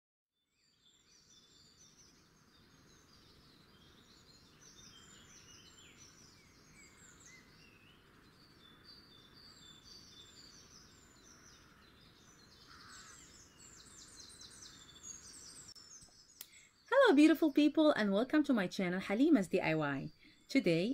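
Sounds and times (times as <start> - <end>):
faint birds chirping: 0.4 - 20.9
low background hiss: 0.8 - 20.9.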